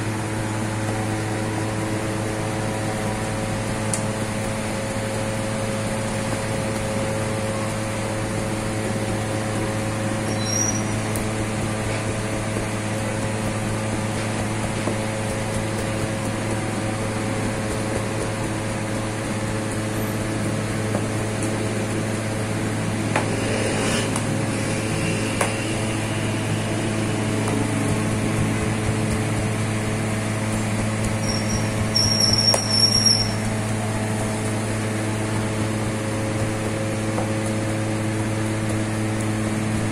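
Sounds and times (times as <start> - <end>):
machinery hum: 0.0 - 39.9.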